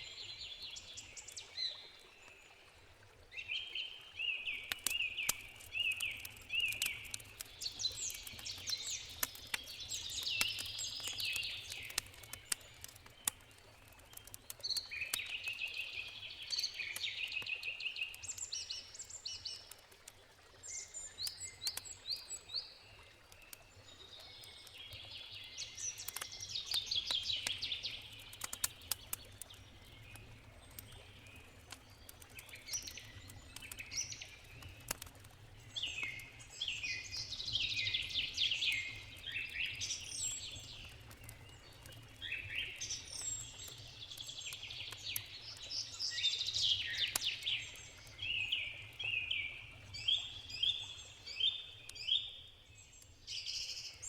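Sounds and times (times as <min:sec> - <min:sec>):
campfire crackling: 0:00.4 - 0:54.0
songbirds singing: 0:03.3 - 0:19.8, 0:20.6 - 0:54.0.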